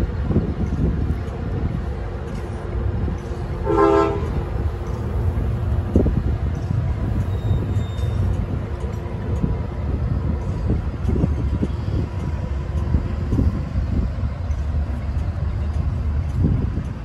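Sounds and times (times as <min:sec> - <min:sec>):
wheel and rail clicks: 0:00.0 - 0:03.6, 0:04.2 - 0:17.0
train rumbling: 0:00.0 - 0:17.0.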